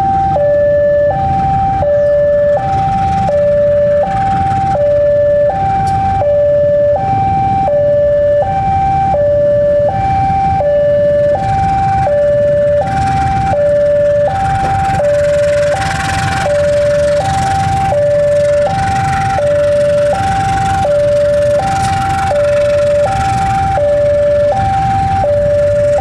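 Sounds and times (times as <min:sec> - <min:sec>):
diesel locomotive rumble: 0:00.0 - 0:26.0
two-tone warning alarm: 0:00.0 - 0:26.0.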